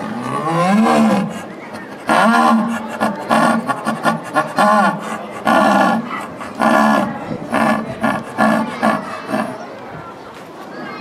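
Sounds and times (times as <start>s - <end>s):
jaguar hoarse calls: 0.7s - 9.6s.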